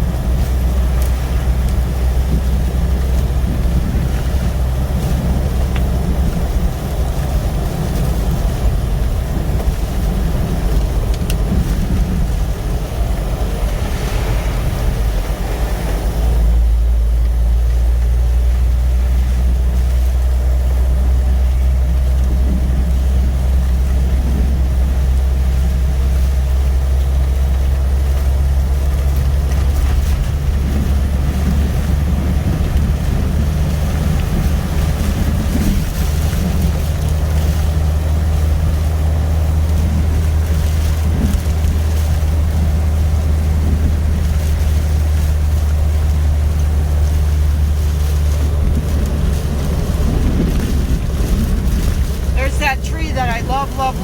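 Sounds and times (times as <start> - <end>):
car driving rumble: 0.0 - 54.0.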